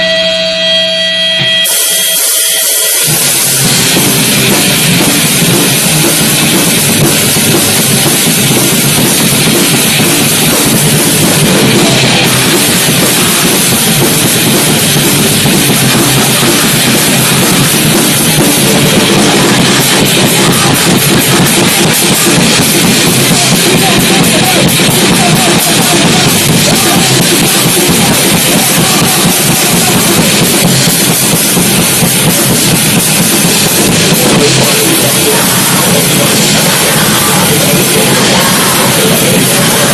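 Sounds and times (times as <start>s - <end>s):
heavy rock music played live: 0.0s - 39.9s
pounding drum kit: 0.0s - 39.9s.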